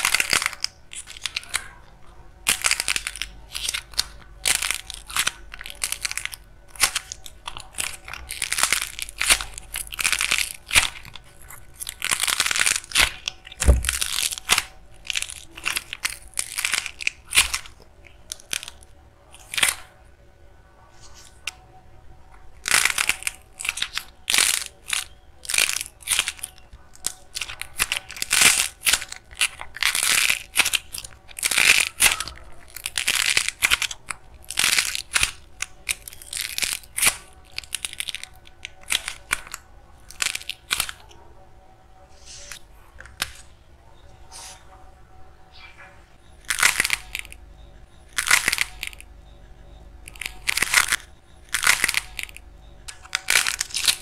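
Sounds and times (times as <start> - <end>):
clay crust cracking and crunching: 0.0 - 20.1, 22.3 - 41.2, 42.2 - 43.6, 46.2 - 49.2, 49.8 - 54.0.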